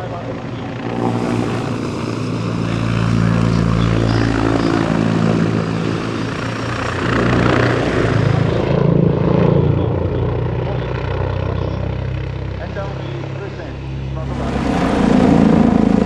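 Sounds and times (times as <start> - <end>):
helicopter flying past: 0.0 - 16.0.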